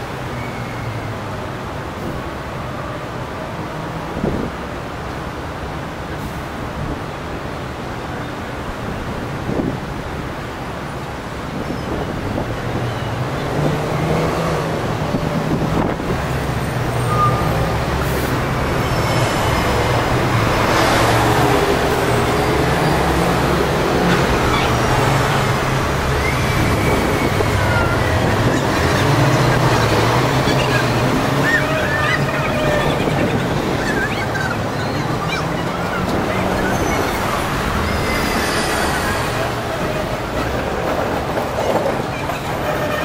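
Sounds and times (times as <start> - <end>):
buses and tram passing: 0.0 - 43.0
road noise: 0.0 - 43.0.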